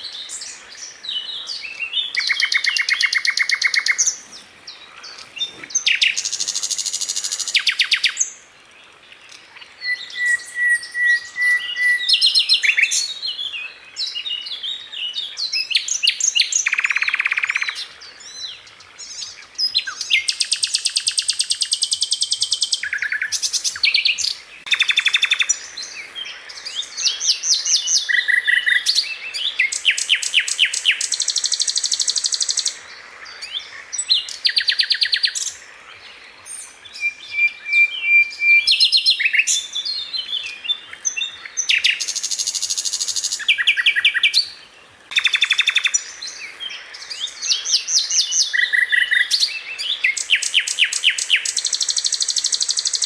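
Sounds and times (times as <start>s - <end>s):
bird singing fast trills: 0.0s - 8.4s, 9.7s - 35.6s, 36.5s - 53.0s.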